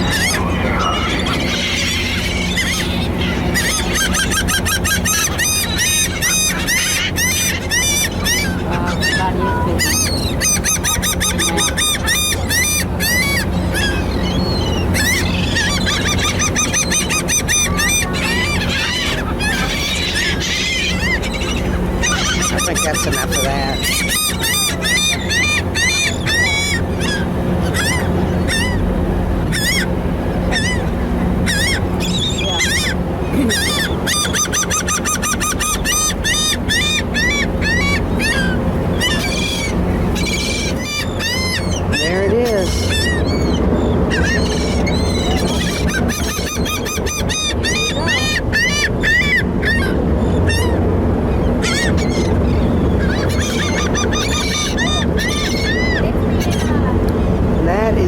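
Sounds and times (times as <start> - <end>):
gulls calling: 0.0 - 58.0
low ferry engine drone: 0.0 - 58.0
steady low rumble: 0.0 - 58.0.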